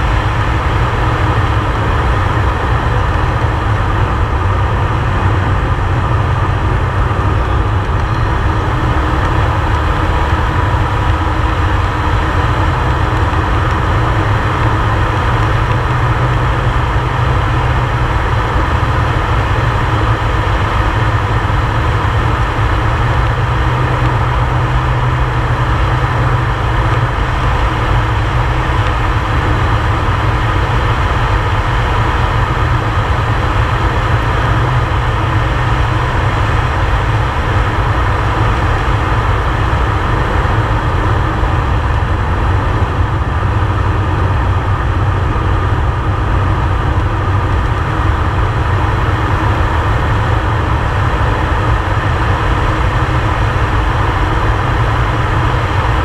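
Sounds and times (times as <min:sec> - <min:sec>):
turboprop engine in flight: 0:00.0 - 0:56.0.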